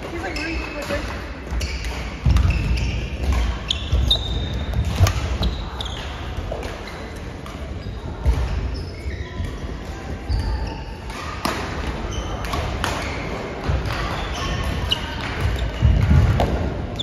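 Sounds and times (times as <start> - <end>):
shoes squeaking on court floor: 0.0 - 17.0
racket hitting shuttlecock: 0.3 - 9.6, 11.0 - 16.7.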